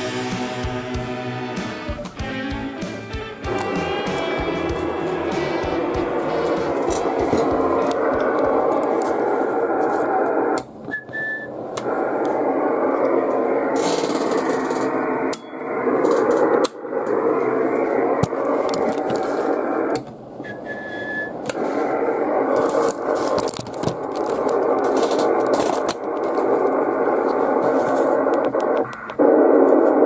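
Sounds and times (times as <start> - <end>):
radio receiver hiss and static: 0.0 - 30.0.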